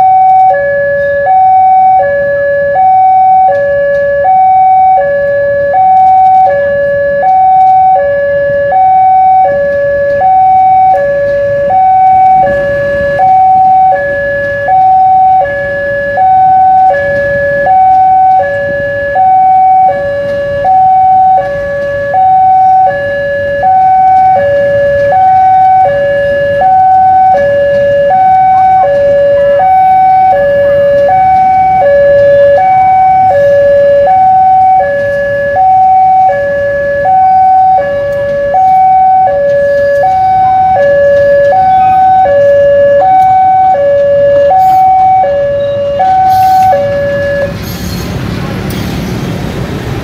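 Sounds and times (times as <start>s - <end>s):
level crossing two-tone alarm: 0.0s - 47.6s
passing train rumble: 0.0s - 50.0s.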